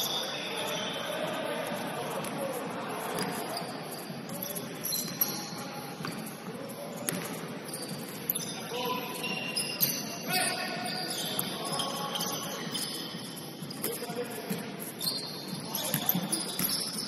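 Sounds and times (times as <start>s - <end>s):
murmur of voices: 0.0s - 17.0s
sneakers squeaking: 0.0s - 17.0s.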